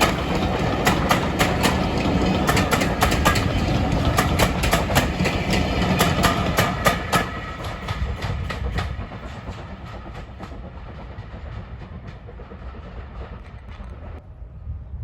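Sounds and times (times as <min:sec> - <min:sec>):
train wheels clicking over rail joints: 0:00.0 - 0:14.2
low train rumble: 0:00.0 - 0:15.0.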